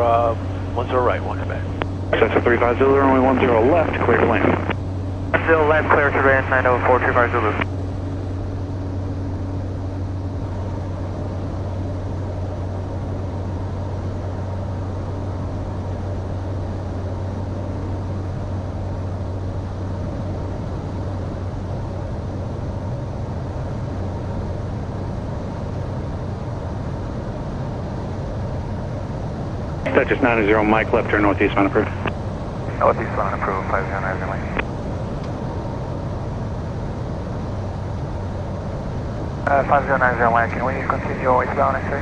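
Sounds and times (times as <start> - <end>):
propeller engine drone: 0.0 - 42.0.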